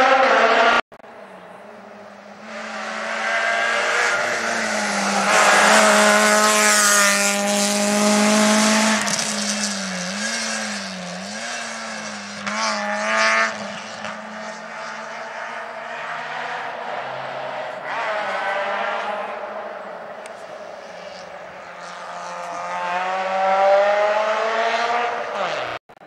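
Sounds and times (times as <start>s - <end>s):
rally car engine at full throttle: 0.0s - 26.0s.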